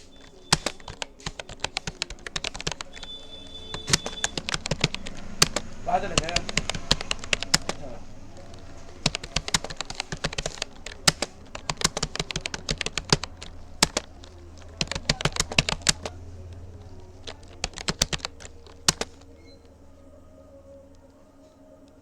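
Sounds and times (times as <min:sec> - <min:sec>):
keyboard typing clicks: 0:00.0 - 0:21.2.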